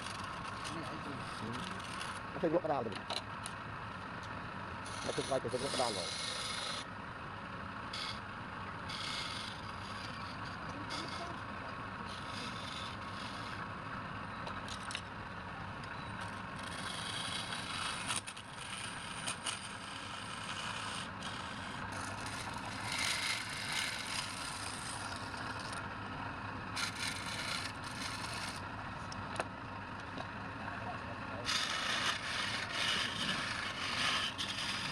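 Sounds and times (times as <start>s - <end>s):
turning tool scraping wood: 0.0s - 3.6s, 4.2s - 6.9s, 7.9s - 13.7s, 14.5s - 15.1s, 16.2s - 25.9s, 26.7s - 29.5s, 30.1s - 34.9s
wood lathe motor running: 0.0s - 34.9s.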